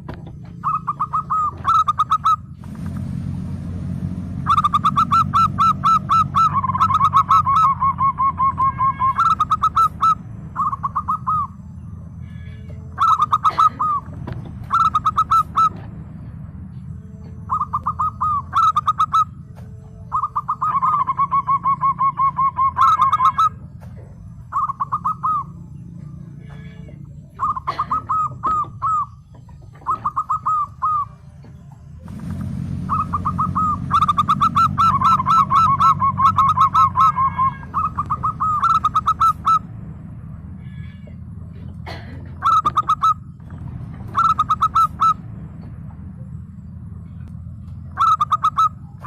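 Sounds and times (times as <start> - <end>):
dove cooing: 0.0 - 2.6, 4.4 - 39.7, 40.5 - 49.0
steady low hum: 0.0 - 49.0.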